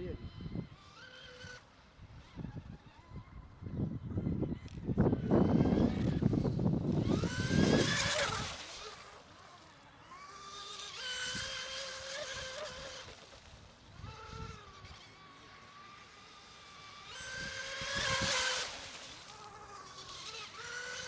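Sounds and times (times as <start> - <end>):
high-pitched motor whine of boats: 0.0 - 21.0.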